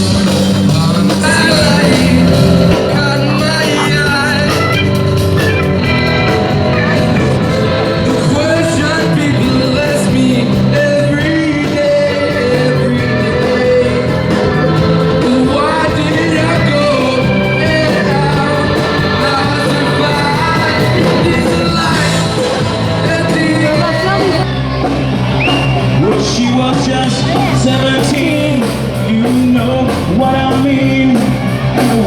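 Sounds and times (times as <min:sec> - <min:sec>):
person singing: 0:00.0 - 0:24.5, 0:25.5 - 0:32.0
live rock band playing: 0:00.0 - 0:32.0.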